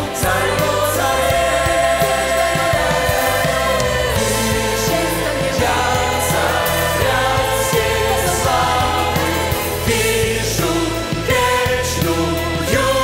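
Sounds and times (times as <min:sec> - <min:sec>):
choir singing: 0:00.0 - 0:13.0
instrumental accompaniment: 0:00.0 - 0:13.0.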